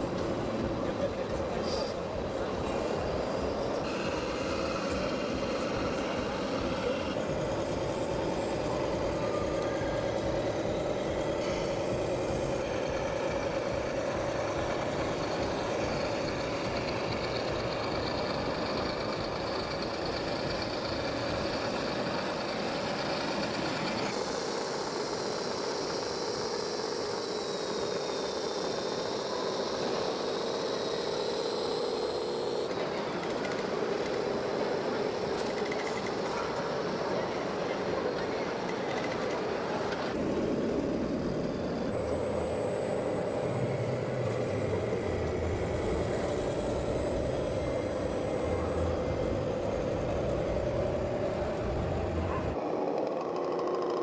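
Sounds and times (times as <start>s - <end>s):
high whine: 0.0s - 53.7s
toy tractor mechanical whir: 0.0s - 54.0s.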